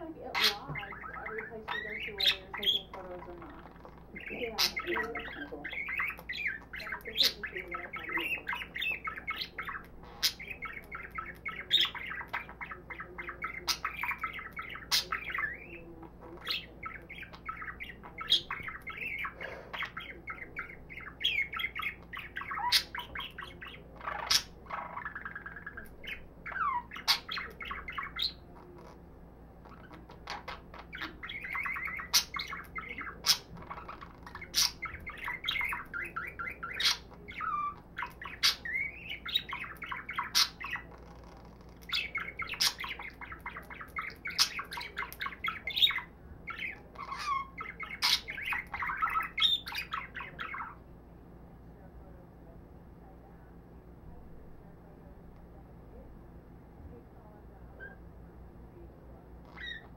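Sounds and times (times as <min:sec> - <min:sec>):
budgerigar warbling: 0:00.2 - 0:28.7, 0:29.6 - 0:41.1, 0:41.8 - 0:50.8, 0:59.5 - 0:59.9.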